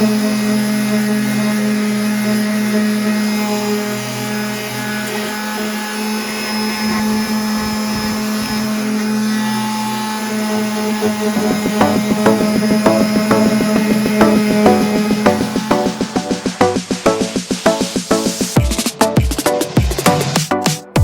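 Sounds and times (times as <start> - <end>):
electric sander humming: 0.0 - 18.8.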